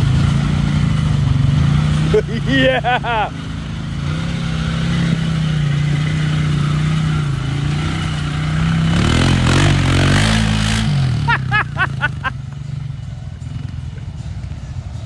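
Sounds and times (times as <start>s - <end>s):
off-road vehicle engine revving: 0.0s - 14.6s.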